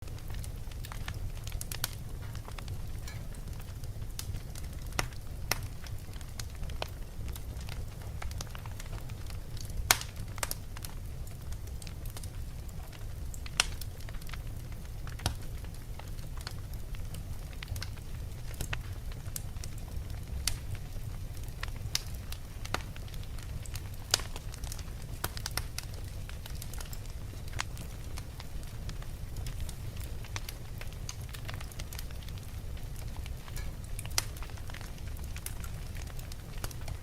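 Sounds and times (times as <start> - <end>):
fire crackling in a fireplace: 0.0 - 37.0.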